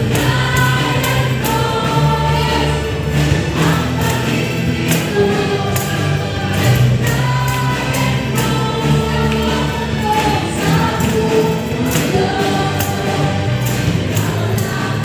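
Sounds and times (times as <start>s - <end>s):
congregation singing over music: 0.0s - 15.0s
sharp rhythmic hits: 0.0s - 15.0s.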